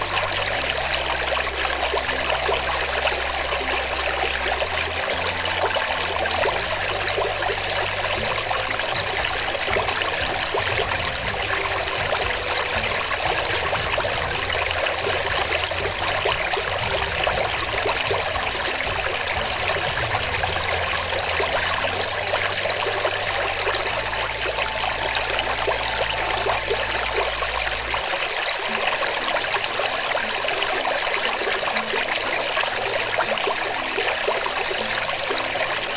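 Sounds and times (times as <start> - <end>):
low hum shifting in pitch: 0.0 - 35.9
running water: 0.0 - 35.9.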